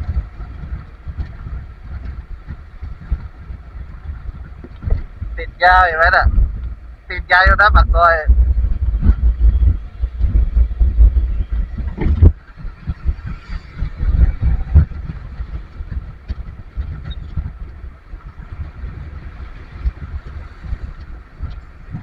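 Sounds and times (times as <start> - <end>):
vehicle rumble in traffic: 0.0 - 18.3.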